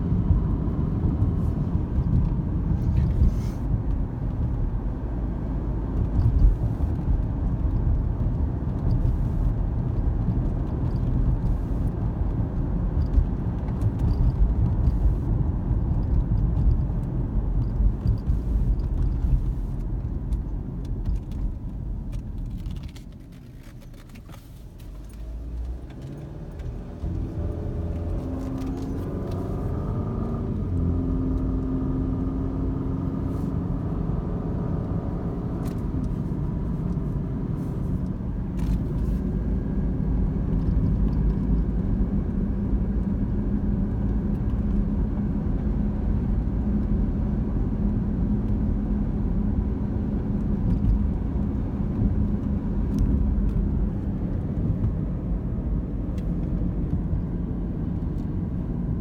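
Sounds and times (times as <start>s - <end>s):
car engine: 0.0s - 59.0s
tyres rumbling on road: 0.0s - 59.0s.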